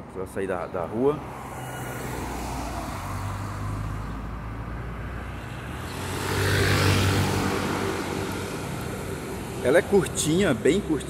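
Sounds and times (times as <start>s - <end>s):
low traffic hum: 0.0s - 11.0s
car approaching: 0.8s - 11.0s.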